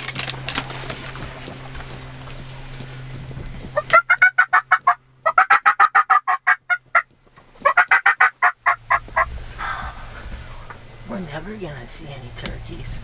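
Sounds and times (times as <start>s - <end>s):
turkey gobbling: 0.3s - 10.8s.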